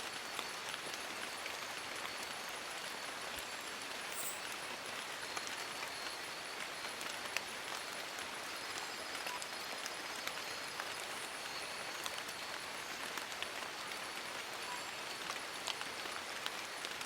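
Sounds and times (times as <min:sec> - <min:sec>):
rain on leaves: 0:00.0 - 0:17.0.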